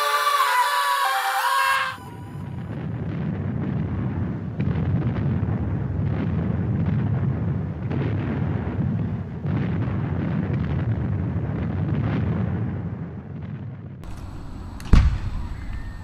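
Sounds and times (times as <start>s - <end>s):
fireworks booming: 2.4s - 16.0s.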